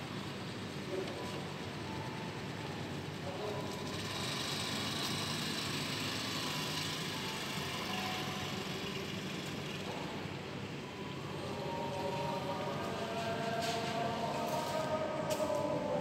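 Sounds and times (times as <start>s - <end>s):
street traffic and motorbikes: 0.0s - 16.0s.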